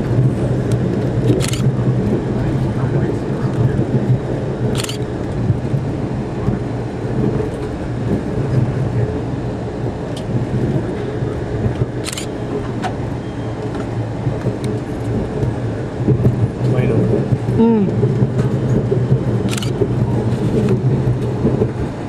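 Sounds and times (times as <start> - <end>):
train rumbling on track: 0.0 - 22.0.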